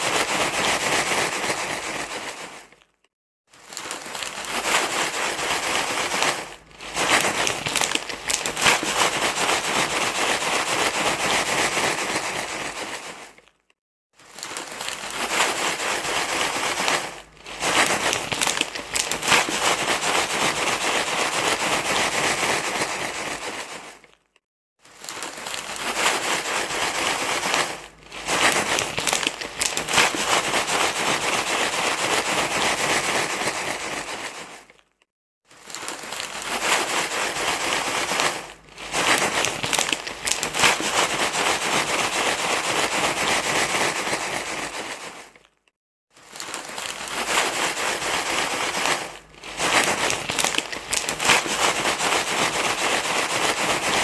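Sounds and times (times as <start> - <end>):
crinkling and rustling: 0.0 - 54.0.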